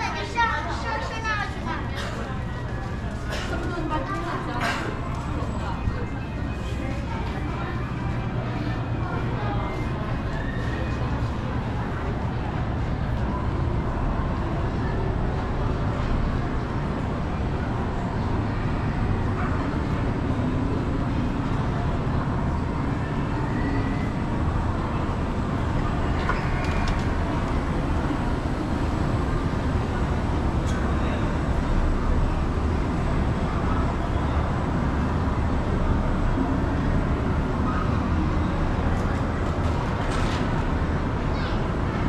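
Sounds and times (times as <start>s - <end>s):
low rumble of background noise: 0.0s - 42.0s.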